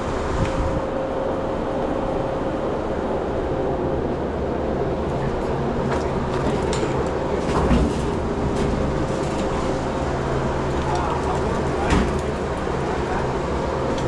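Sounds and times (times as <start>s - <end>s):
machinery droning: 0.0s - 14.0s.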